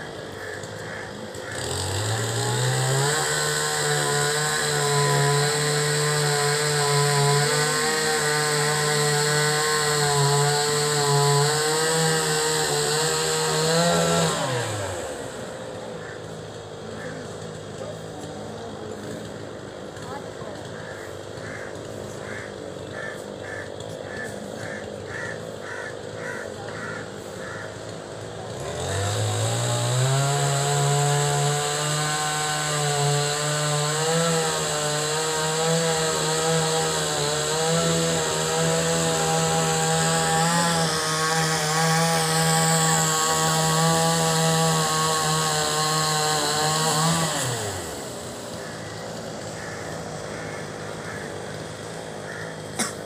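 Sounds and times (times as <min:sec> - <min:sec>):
engine revving: 0:00.0 - 0:53.0.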